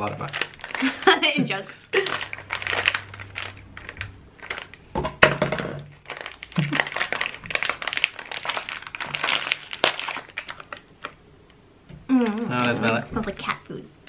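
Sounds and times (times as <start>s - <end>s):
snack packaging crinkling: 0.0s - 4.9s, 5.5s - 11.2s, 12.1s - 13.4s.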